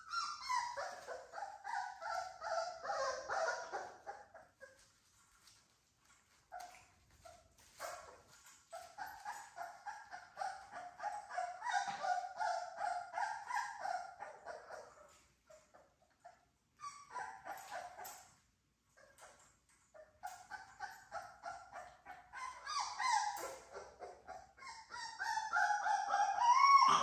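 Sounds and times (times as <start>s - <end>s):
puppies whining and yipping: 0.0s - 27.0s.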